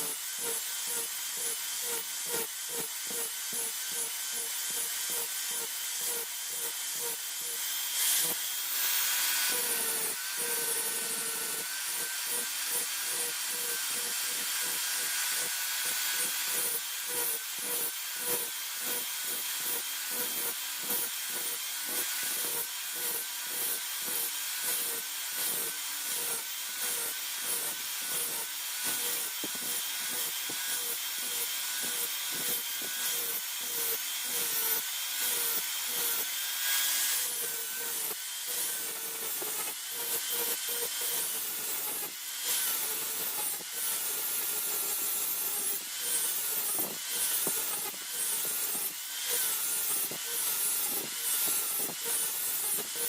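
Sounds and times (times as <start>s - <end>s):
file or saw strokes: 0.0s - 53.0s.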